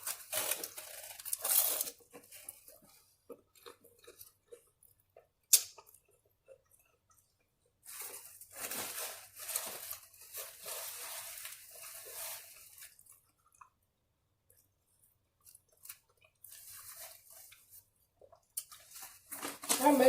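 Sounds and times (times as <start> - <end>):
person crunching and chewing food: 0.0 - 19.8.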